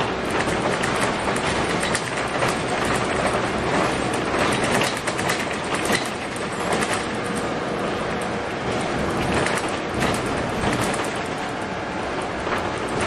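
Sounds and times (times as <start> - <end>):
bus road and running noise: 0.0 - 13.0
body clicks and rattles: 0.3 - 7.6, 8.2 - 13.0.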